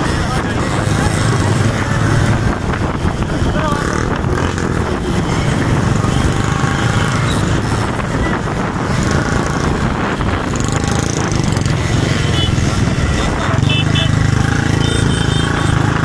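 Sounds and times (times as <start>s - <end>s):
motorcycle engines and road rumble: 0.0s - 16.0s.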